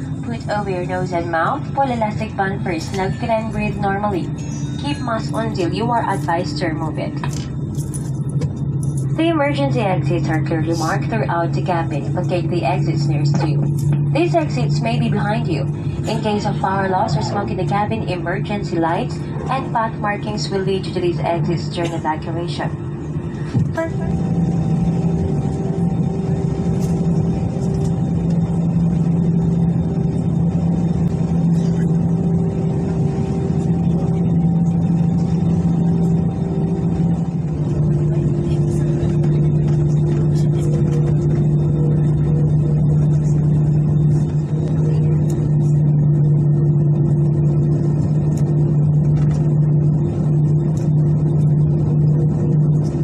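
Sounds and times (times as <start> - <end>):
held engine tone: 0.0 - 53.0
jet cabin hum and rumble: 0.0 - 53.0.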